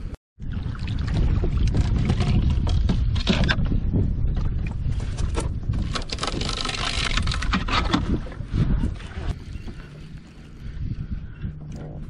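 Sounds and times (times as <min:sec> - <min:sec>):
wind rumbling on microphone: 0:00.0 - 0:12.0
water splashing and sloshing: 0:00.4 - 0:03.7, 0:04.3 - 0:12.0.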